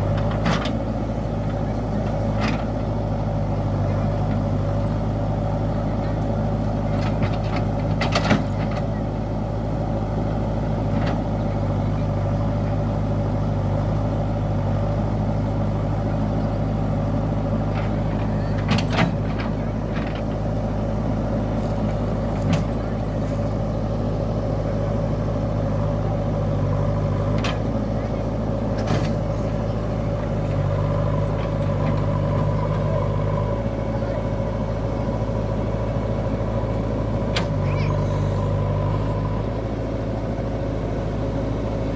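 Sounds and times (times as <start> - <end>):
heavy machinery diesel engine: 0.0 - 41.9.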